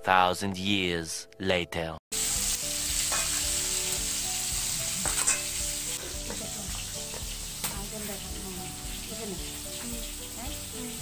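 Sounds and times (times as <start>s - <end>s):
fish sizzling in hot oil: 2.1s - 11.0s.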